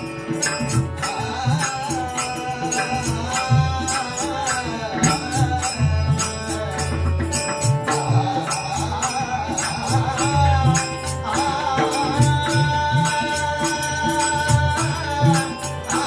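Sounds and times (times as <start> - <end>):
chanted refrain: 0.0 - 16.0.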